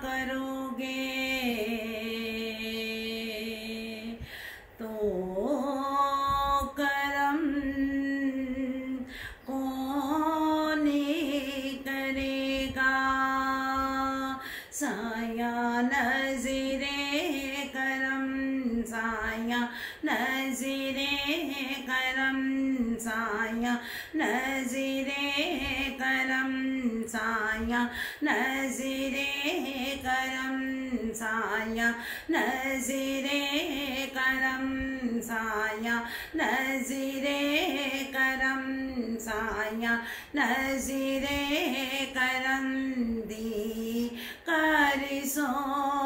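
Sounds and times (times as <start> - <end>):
woman singing: 0.0 - 46.0.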